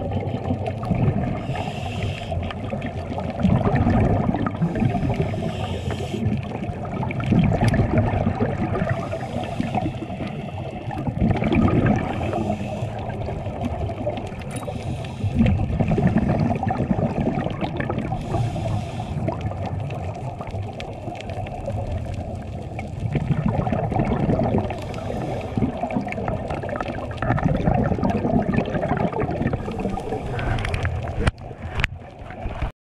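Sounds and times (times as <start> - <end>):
underwater regulator bubbling: 0.0 - 32.7.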